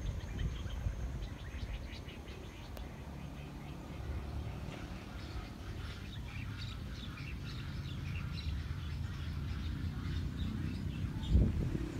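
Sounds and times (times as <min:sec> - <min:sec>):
birds chirping: 0:00.0 - 0:11.9
steady low rumble: 0:00.0 - 0:11.9.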